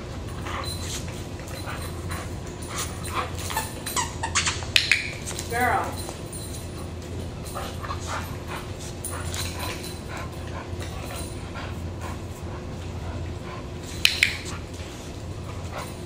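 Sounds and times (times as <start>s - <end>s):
dog panting: 0.0s - 4.3s, 6.0s - 16.0s
low steady hum: 0.0s - 16.0s.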